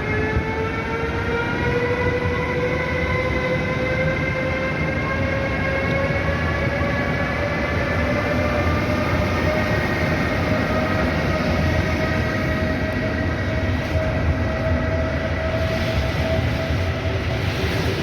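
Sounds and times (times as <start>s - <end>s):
freight train rumbling by: 0.0s - 18.0s
high train whine: 0.0s - 18.0s.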